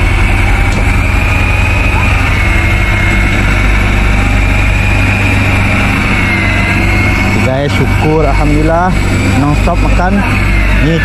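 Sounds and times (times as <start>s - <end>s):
boat engine hum: 0.0s - 11.0s
fishing reel motor whining: 0.0s - 11.0s.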